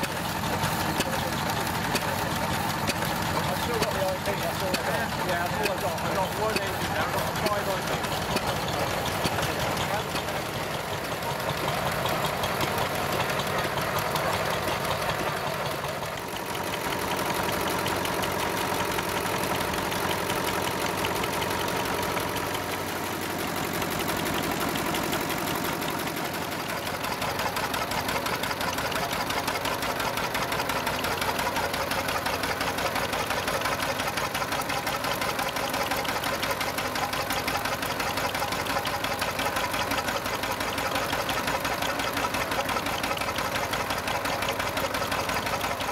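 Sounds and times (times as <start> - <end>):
stationary engines running: 0.0 - 45.9.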